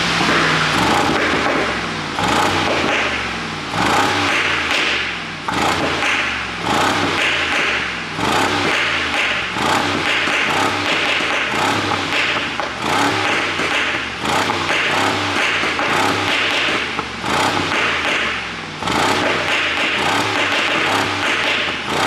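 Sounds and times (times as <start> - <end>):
car engine revving: 0.0 - 22.0
exhaust crackling pops: 0.0 - 22.0.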